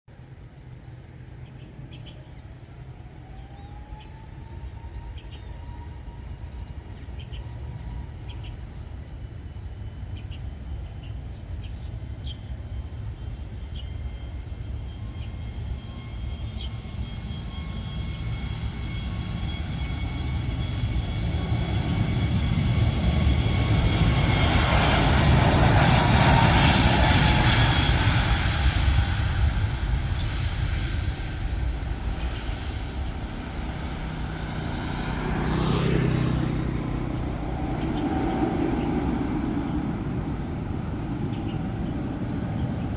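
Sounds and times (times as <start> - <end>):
jet engines passing: 0.1 - 42.9.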